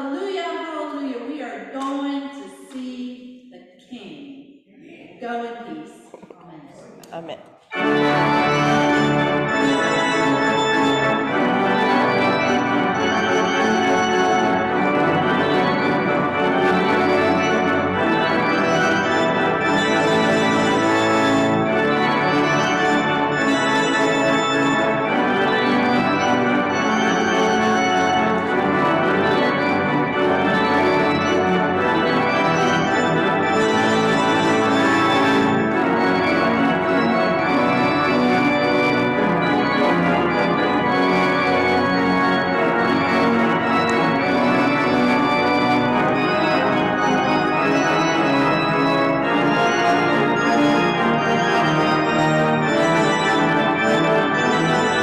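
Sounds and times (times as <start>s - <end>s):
pipe organ chords: 7.7s - 55.0s.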